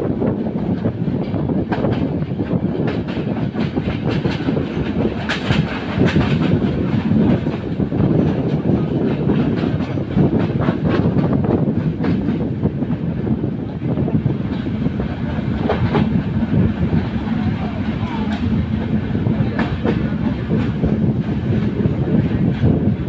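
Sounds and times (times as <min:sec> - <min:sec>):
train rumble: 0:00.0 - 0:23.0
wheels clickety-clack on rail joints: 0:00.0 - 0:23.0.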